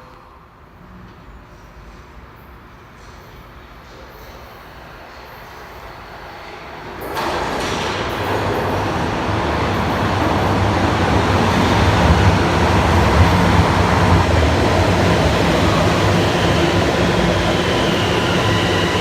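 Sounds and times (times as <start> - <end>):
subway train wheels and motors: 0.0 - 19.0.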